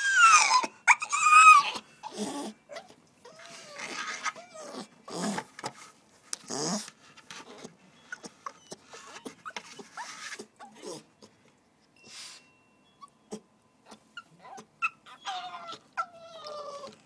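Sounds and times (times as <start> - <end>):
puppy grumbling moans and huffs: 0.0 - 5.7, 6.4 - 11.4, 13.3 - 17.0
puppy whining: 0.0 - 5.7, 6.4 - 17.0.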